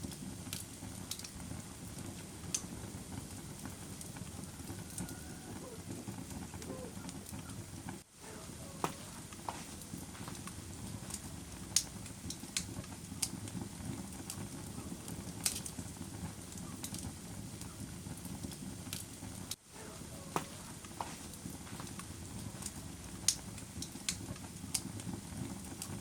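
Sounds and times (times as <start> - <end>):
fire flames rumbling: 0.0 - 26.0
fire sharp pops: 0.0 - 26.0.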